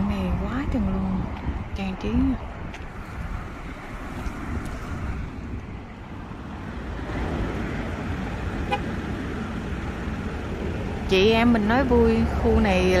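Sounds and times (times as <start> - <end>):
car road and engine noise: 0.0 - 13.0
wind buffeting microphone: 0.0 - 13.0.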